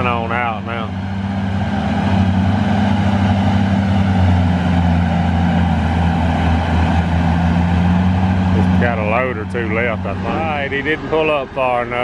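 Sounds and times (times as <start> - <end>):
heavy diesel engines droning: 0.0 - 12.0.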